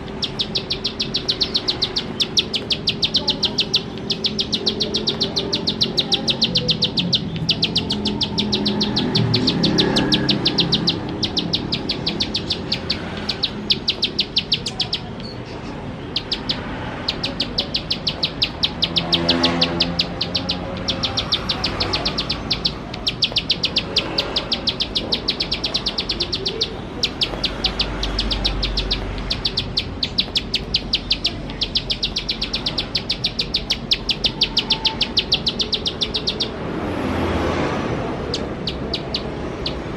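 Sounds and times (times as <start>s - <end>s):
bird singing rapid clicking notes: 0.0s - 37.3s, 38.2s - 39.9s.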